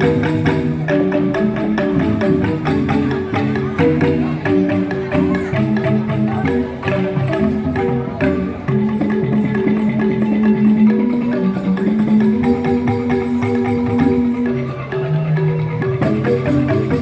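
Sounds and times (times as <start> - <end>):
bamboo xylophones struck: 0.0 - 17.0
gamelan music: 0.0 - 17.0.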